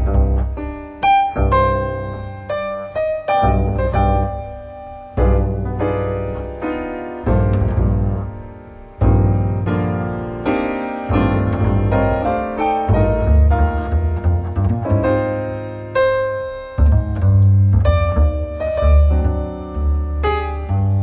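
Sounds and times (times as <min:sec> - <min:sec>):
acoustic piano chords: 0:00.0 - 0:21.0
double bass notes: 0:00.0 - 0:21.0.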